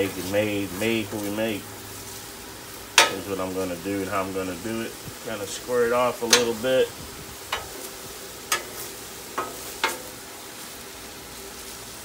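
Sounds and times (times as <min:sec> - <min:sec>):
steak sizzling on a griddle: 0:00.0 - 0:12.0.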